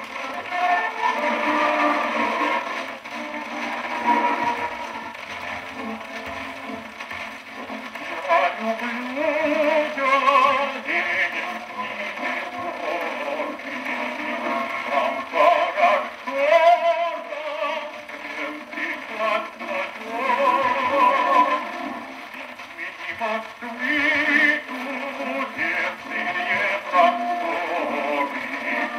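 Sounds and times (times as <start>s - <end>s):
gramophone singer with accompaniment: 0.0s - 28.9s
record surface hiss and crackle: 0.0s - 28.9s.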